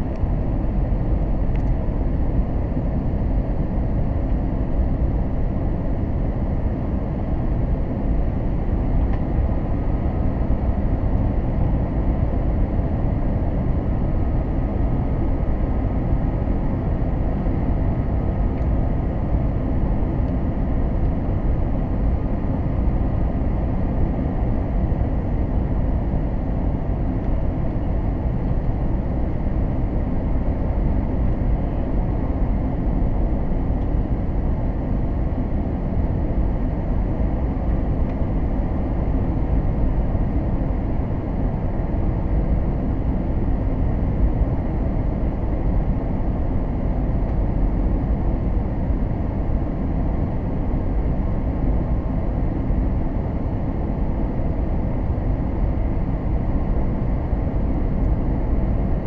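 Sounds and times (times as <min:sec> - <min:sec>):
faint steady whine: 0:00.0 - 0:59.0.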